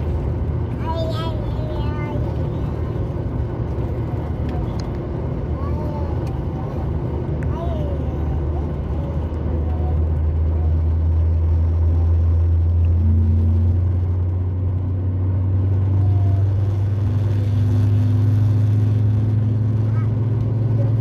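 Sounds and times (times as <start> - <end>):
jet engine cabin hum: 0.0 - 20.8.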